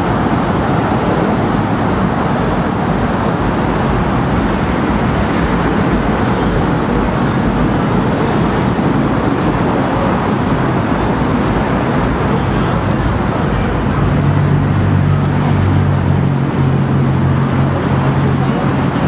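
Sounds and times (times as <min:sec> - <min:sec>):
steady road traffic: 0:00.0 - 0:19.0.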